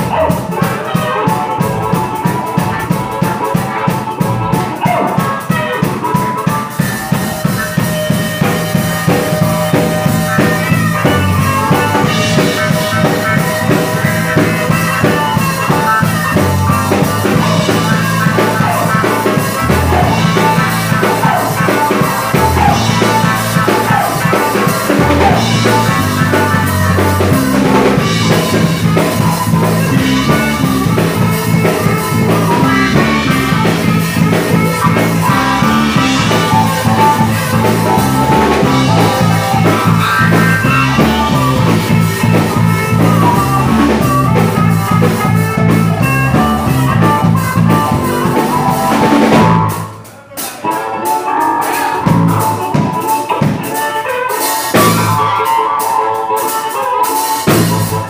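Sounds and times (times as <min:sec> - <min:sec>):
blues band playing: 0:00.0 - 0:58.0
harmonica: 0:00.0 - 0:58.0.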